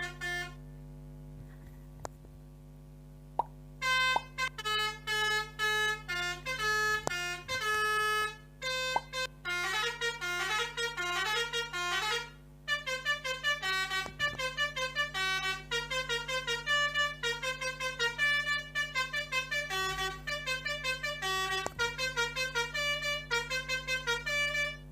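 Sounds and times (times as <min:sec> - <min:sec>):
melodica melody: 0:00.0 - 0:00.6, 0:03.8 - 0:24.9.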